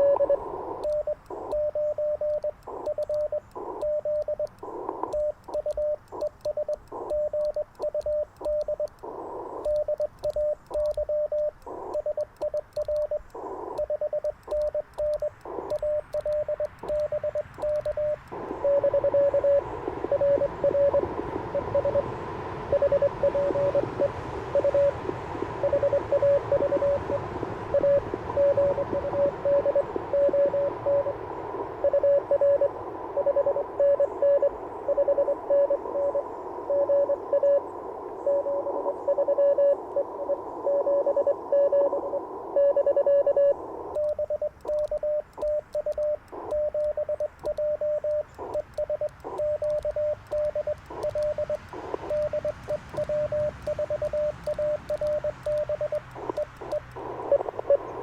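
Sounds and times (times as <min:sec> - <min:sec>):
morse code tone: 0:00.0 - 0:22.1, 0:22.7 - 0:25.0, 0:25.6 - 0:31.2, 0:31.8 - 0:37.6, 0:38.3 - 0:58.0
radio band hiss: 0:00.0 - 0:58.0.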